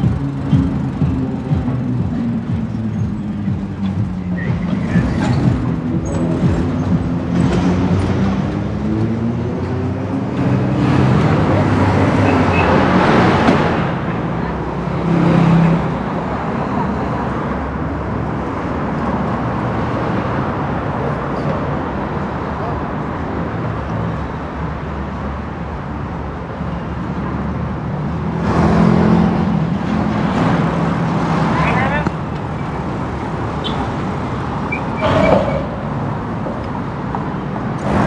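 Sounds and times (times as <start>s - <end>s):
car and bus engines passing: 0.0s - 38.0s.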